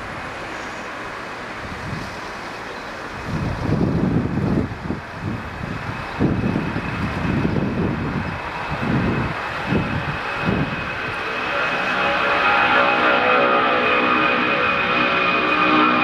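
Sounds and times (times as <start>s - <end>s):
high jet whine: 0.0s - 16.0s
jet engines rumbling at takeoff: 0.0s - 16.0s.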